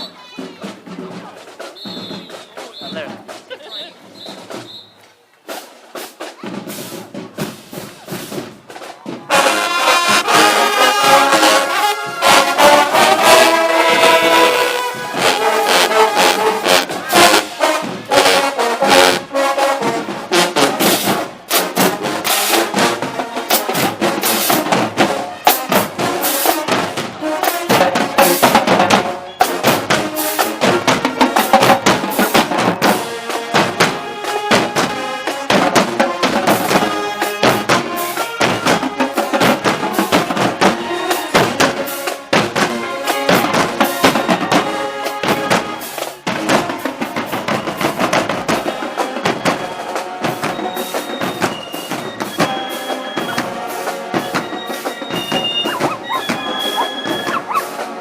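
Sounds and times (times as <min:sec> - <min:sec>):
marching band brass: 0:00.0 - 0:58.0
marching drum beat: 0:00.0 - 0:58.0.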